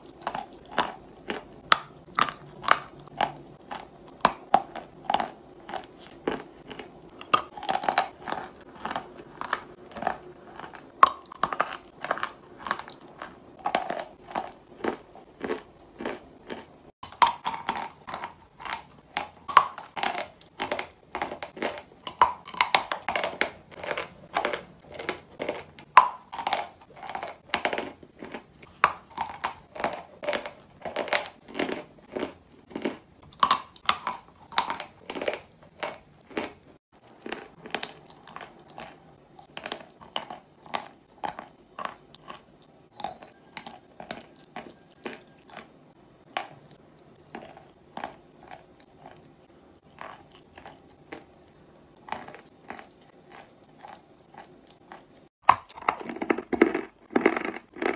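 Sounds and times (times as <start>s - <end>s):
person chewing chalk crunches: 0.0s - 57.9s.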